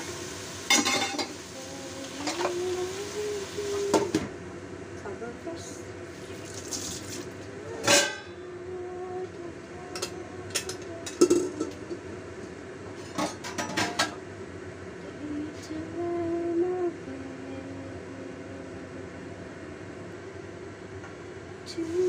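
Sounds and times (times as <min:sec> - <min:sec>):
low hiss of pan cooking: 0:00.0 - 0:22.0.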